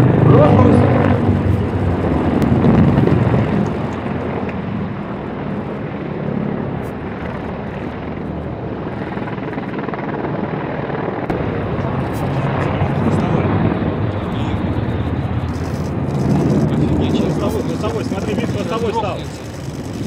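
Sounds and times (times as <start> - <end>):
helicopters flying overhead: 0.0 - 20.0.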